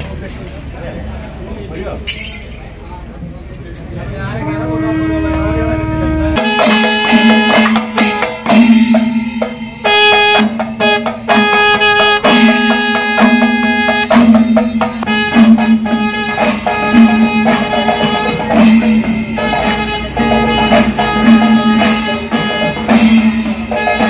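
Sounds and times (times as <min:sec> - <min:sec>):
wind instrument melody: 0:04.3 - 0:24.0
drums beaten in rhythm: 0:04.5 - 0:24.0.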